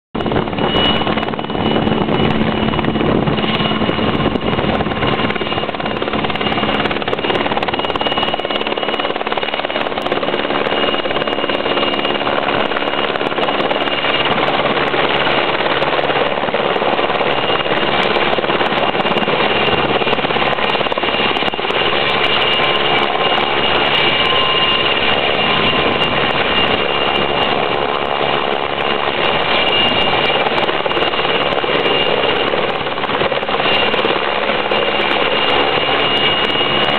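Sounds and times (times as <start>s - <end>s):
helicopter rotor noise: 0.2s - 36.9s.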